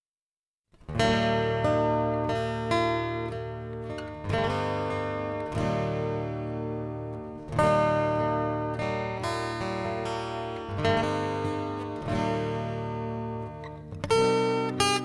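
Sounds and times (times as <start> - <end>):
acoustic guitar strumming chords: 0.8 - 15.0.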